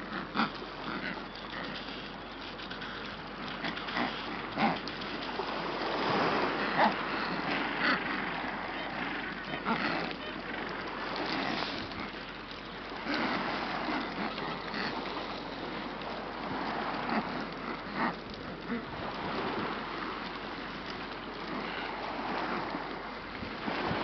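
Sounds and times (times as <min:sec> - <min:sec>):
waves lapping on gravel: 0:00.0 - 0:24.0.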